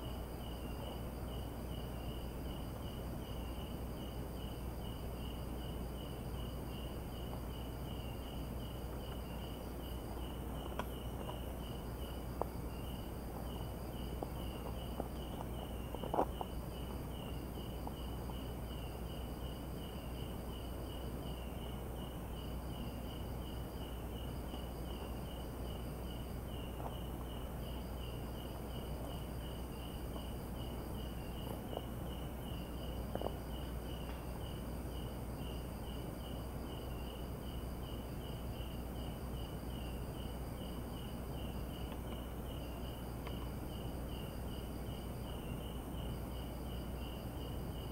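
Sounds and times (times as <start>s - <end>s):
insect trill: 0.0s - 47.9s
insects chirping: 0.0s - 47.9s.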